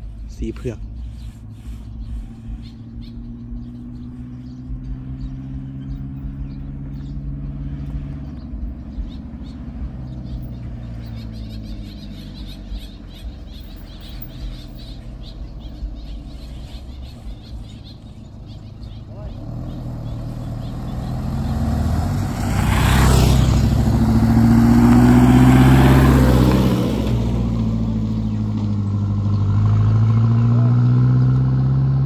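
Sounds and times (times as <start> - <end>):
high chirps: 0.0 - 26.5
low motor hum: 0.0 - 32.0.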